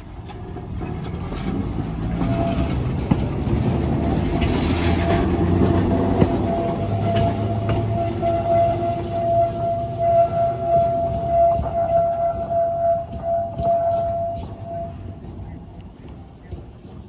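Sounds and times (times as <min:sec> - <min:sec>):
trolley motor whine: 0:00.0 - 0:17.0
wheels on rails: 0:00.0 - 0:17.0.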